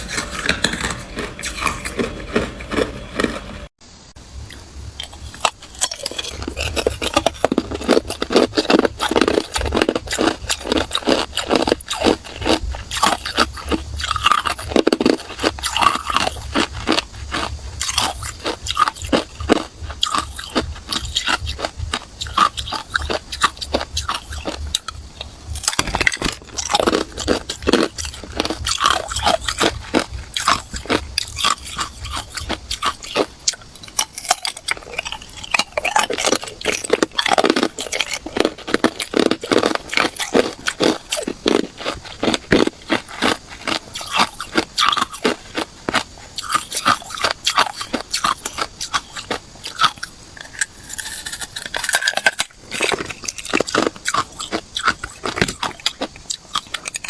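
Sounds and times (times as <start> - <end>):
person crunching ice cubes: 0.0 - 3.6, 4.5 - 57.0.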